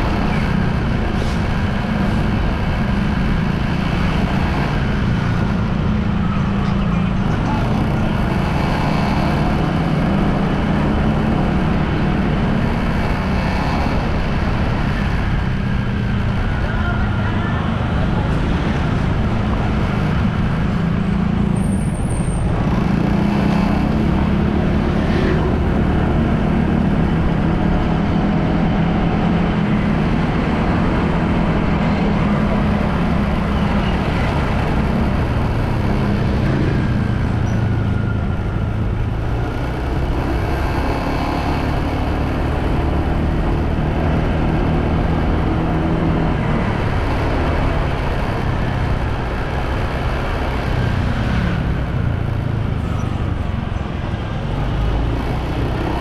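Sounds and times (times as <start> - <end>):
road noise rushing: 0.0 - 56.0.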